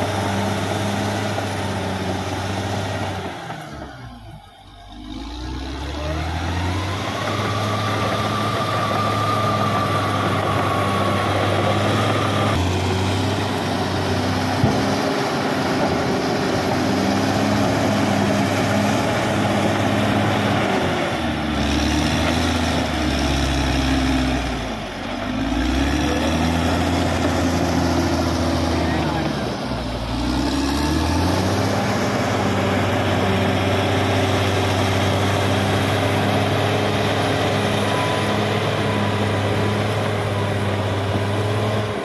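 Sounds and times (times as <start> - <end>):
bulldozer diesel engine running: 0.0 - 42.0.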